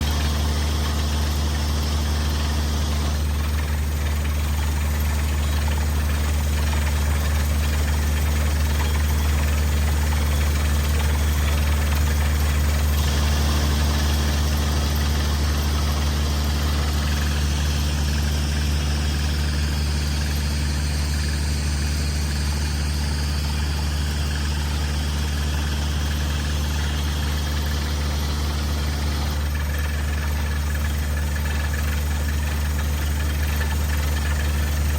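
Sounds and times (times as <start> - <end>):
drilling rig engine humming: 0.0 - 34.9.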